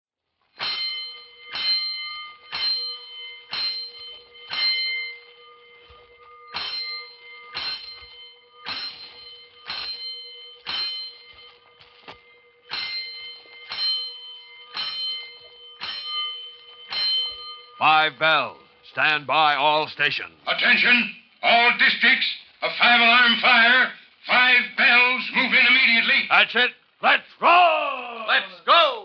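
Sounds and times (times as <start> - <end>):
fire-station alarm bell strokes: 0.4 - 27.0.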